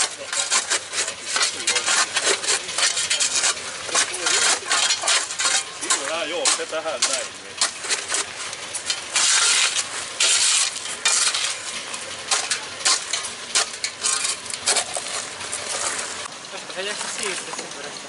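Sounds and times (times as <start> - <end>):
shovel scraping gravel: 0.0 - 17.6.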